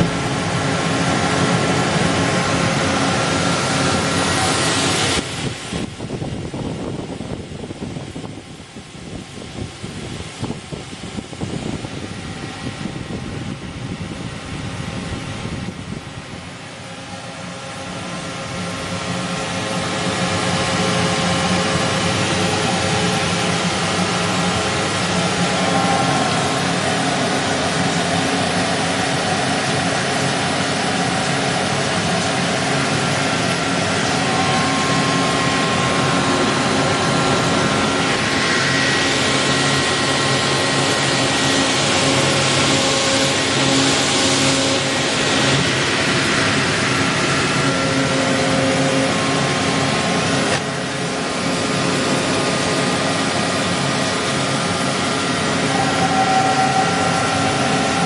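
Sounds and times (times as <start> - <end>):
lathe humming and whining: 0.0 - 58.0.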